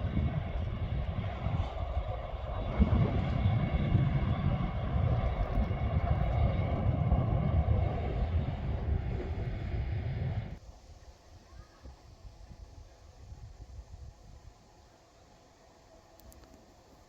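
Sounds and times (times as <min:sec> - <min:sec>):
diesel train engine drone: 0:00.0 - 0:11.3, 0:12.2 - 0:17.0
wind rumble on microphone: 0:00.0 - 0:14.6.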